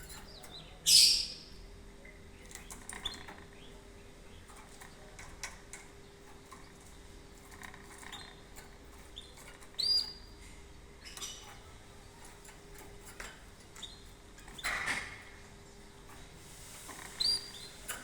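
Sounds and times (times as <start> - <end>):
canary chirping: 0.0 - 18.0.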